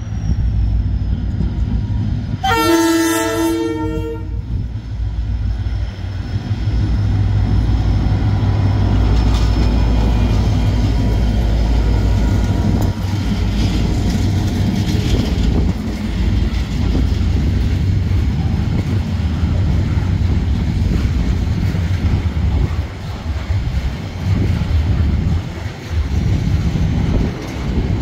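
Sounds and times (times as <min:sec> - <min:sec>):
locomotive engines humming: 0:00.0 - 0:28.0
wagon wheels rumbling on rail: 0:00.0 - 0:28.0.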